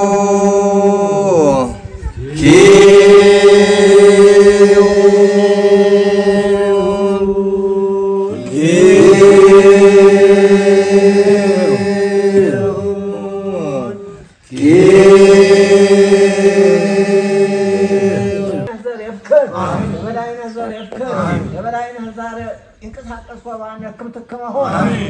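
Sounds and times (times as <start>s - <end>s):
voices chanting together: 0.0s - 18.8s, 19.4s - 22.5s, 24.6s - 25.0s.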